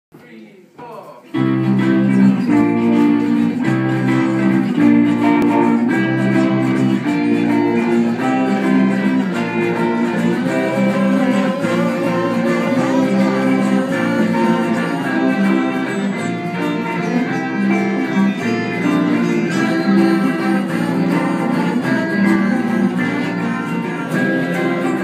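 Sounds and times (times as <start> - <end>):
strummed guitars: 1.2 - 25.0
band playing: 1.3 - 25.0.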